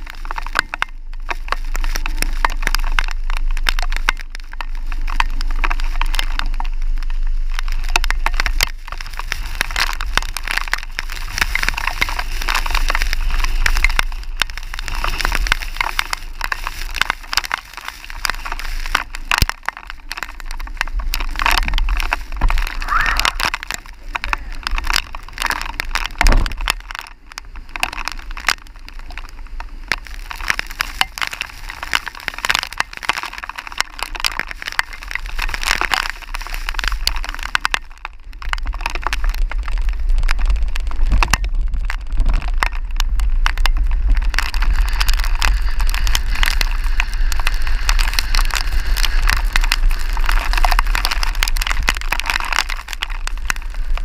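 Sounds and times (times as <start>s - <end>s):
rain crackling: 0.0s - 54.0s.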